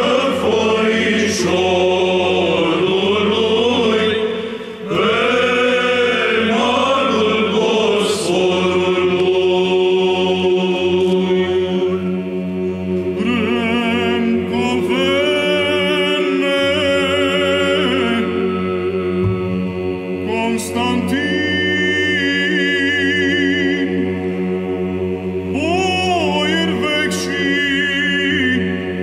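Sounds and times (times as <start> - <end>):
men's choir chanting: 0.0 - 29.0
ornamented melodic vocal line: 0.0 - 29.0.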